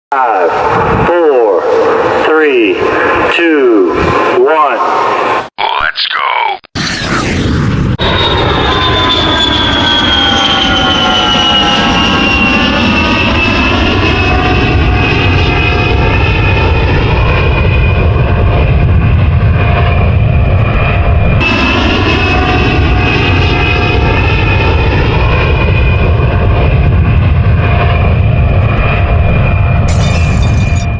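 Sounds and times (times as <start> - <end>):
airplane engine whining: 0.2 - 5.5, 6.8 - 30.9.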